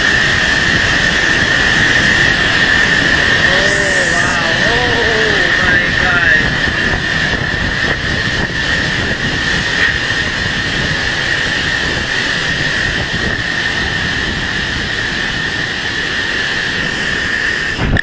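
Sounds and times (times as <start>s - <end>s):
driving rain: 0.0s - 18.0s
strong wind whistling: 0.0s - 18.0s.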